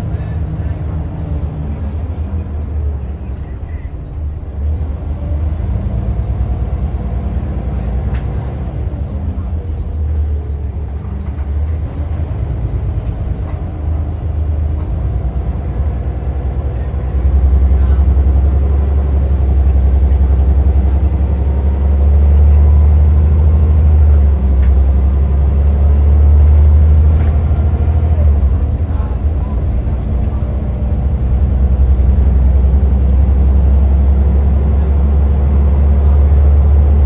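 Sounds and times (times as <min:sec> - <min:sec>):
bus engine rumbling: 0:00.0 - 0:37.0.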